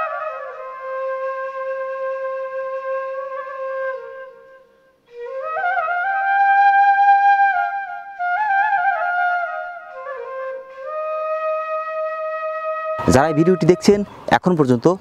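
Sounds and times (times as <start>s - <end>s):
solo flute music: 0.0s - 14.2s.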